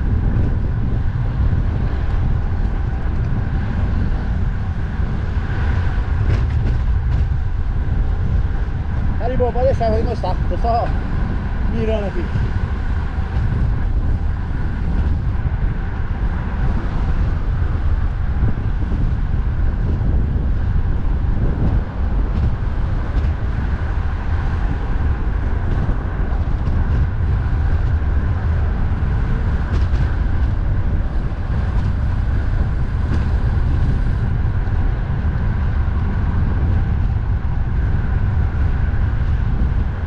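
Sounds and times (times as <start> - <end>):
heavy road traffic: 0.0 - 40.0
wind buffeting microphone: 0.0 - 40.0.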